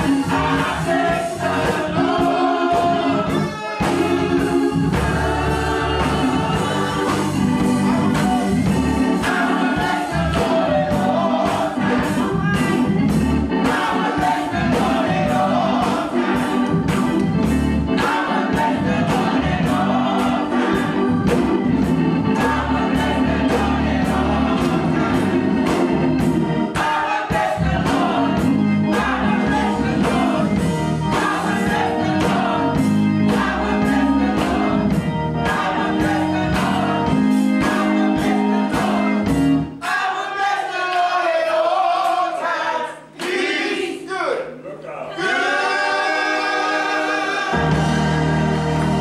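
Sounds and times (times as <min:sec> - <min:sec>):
band with steady beat and bass: 0:00.0 - 0:39.8, 0:47.5 - 0:49.0
gospel choir singing: 0:00.0 - 0:49.0.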